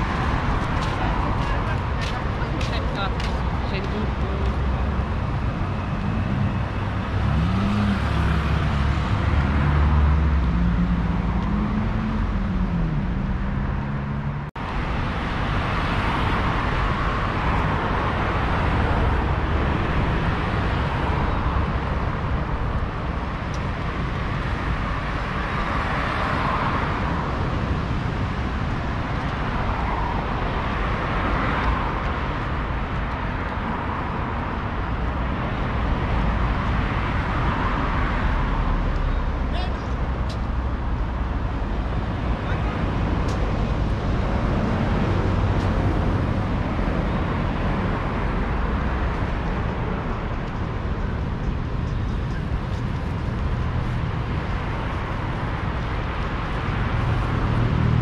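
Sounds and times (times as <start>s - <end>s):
street traffic: 0.0s - 58.0s.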